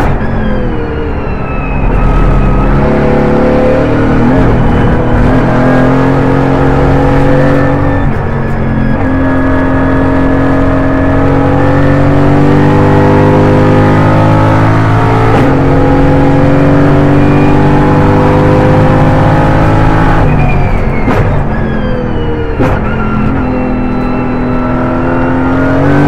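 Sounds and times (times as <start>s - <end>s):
race car engine from inside: 0.0s - 26.0s.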